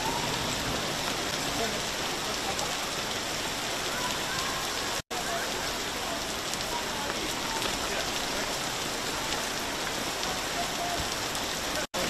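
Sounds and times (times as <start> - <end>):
heavy hail and rain falling: 0.0 - 12.0.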